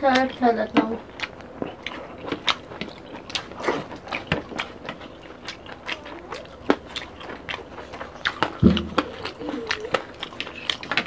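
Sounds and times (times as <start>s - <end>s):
chewing and lip smacking: 0.0s - 11.0s.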